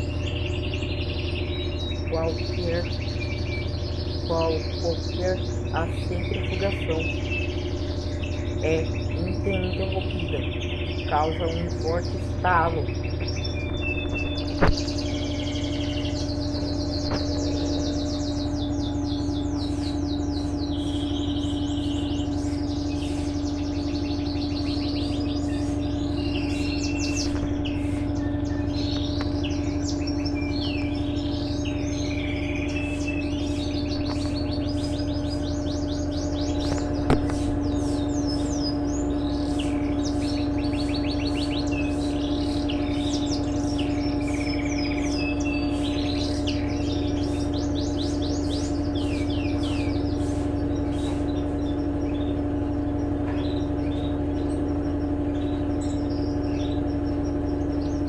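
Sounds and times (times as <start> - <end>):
birds chirping and trilling: 0.0 - 58.0
washing machine humming: 0.0 - 58.0.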